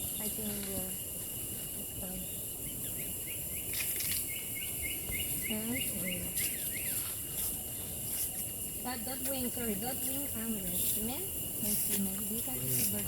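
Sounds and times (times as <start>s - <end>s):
insects droning with high hiss: 0.0s - 13.0s.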